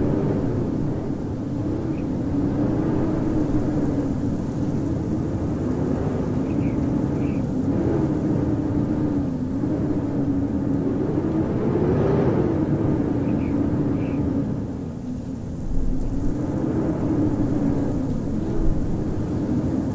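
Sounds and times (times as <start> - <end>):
howling wind: 0.0 - 19.9.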